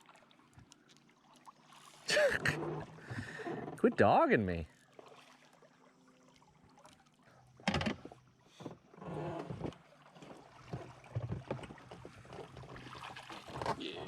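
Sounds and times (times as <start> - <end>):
water lapping and sloshing: 0.0 - 14.0.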